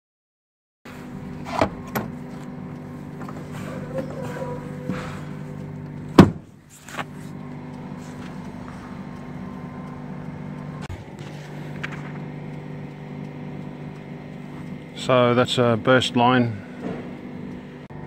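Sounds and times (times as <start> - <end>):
diesel truck engine idling: 0.9 - 17.8.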